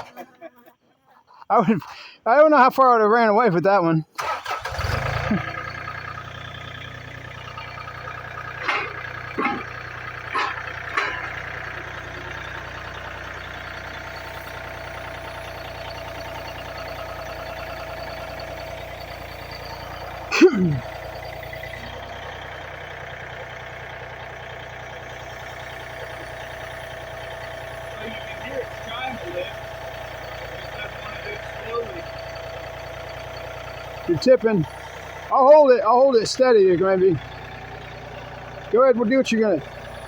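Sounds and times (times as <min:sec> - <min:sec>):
machine engine running: 0:04.2 - 0:40.0.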